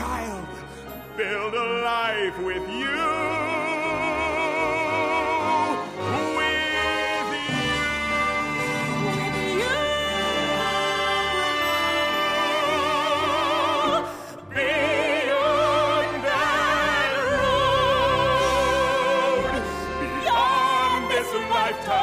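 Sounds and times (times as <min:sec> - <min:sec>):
man and woman singing: 0:00.0 - 0:22.0
orchestra playing: 0:00.0 - 0:22.0.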